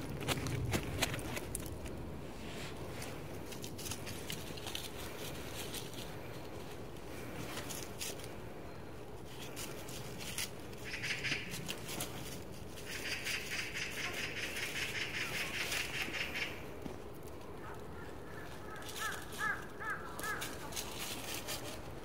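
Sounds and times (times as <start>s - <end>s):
dry leaves crackling and rustling: 0.0s - 22.0s.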